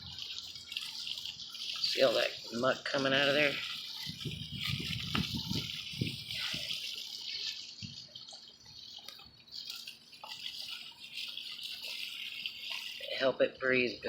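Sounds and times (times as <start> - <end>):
hose spraying water: 0.0 - 14.0
water splashing: 0.0 - 14.0.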